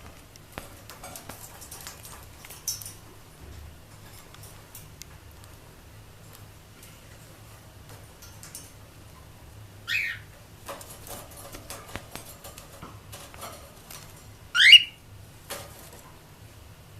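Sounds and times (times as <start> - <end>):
small clicks and rustles: 0.0 - 9.4, 10.3 - 14.5, 15.2 - 16.4.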